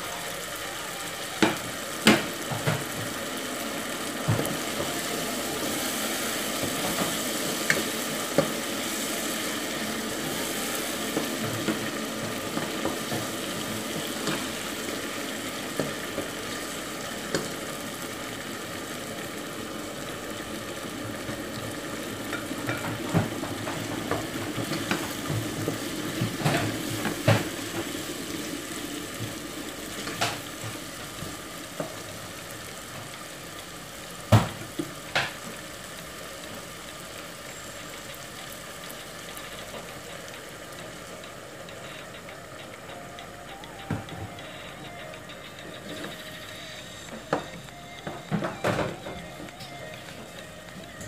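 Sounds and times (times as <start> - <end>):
chicken and vegetables sizzling: 0.0 - 51.0.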